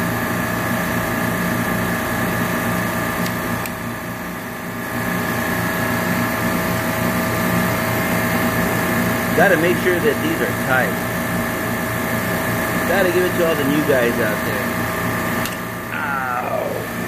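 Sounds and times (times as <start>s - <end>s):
compressors humming and whining: 0.0s - 17.0s.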